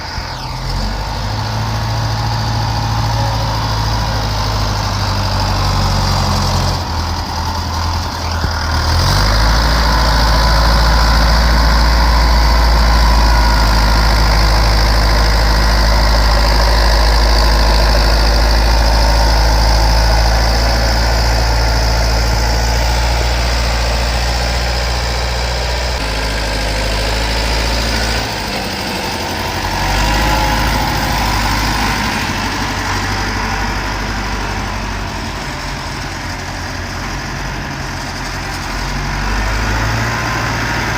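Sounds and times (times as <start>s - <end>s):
tractor diesel engine working: 0.0s - 40.9s.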